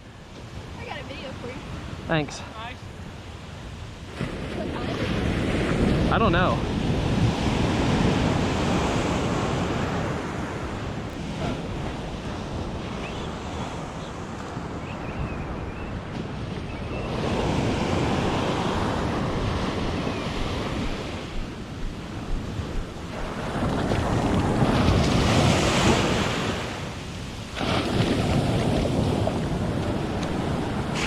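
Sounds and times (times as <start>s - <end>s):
ocean surf washing onto beach: 0.0s - 31.0s
wind buffeting microphone: 0.0s - 31.0s.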